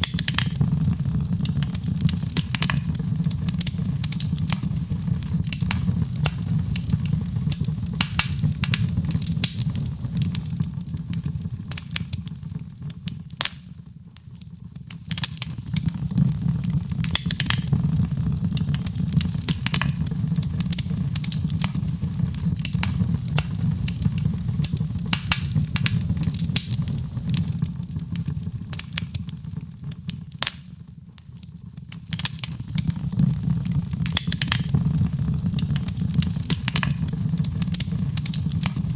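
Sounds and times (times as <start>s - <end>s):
low rumble of flames: 0.0s - 30.4s, 31.0s - 38.9s
wood fire crackling and popping: 0.0s - 38.9s.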